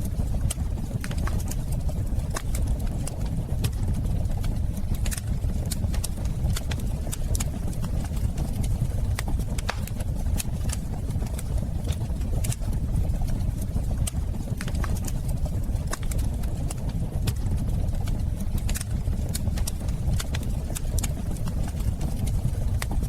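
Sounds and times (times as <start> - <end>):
burning wood crackling and popping: 0.0 - 23.0
fire low rumble: 0.0 - 23.0.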